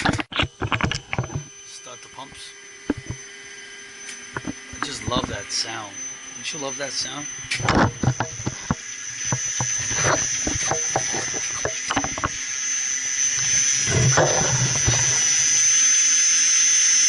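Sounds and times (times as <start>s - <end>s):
water pumps whining and humming: 0.0s - 17.0s.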